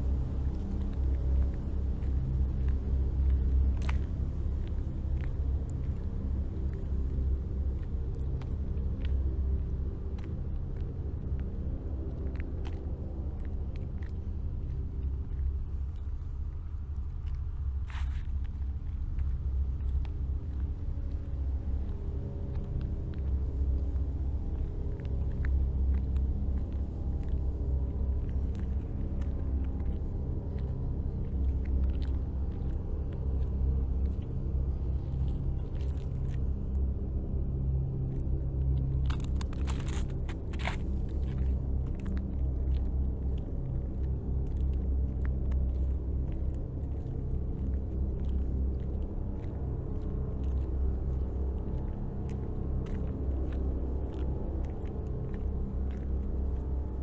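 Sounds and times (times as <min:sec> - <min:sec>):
footsteps crunching on snowy asphalt: 0:00.0 - 0:57.0.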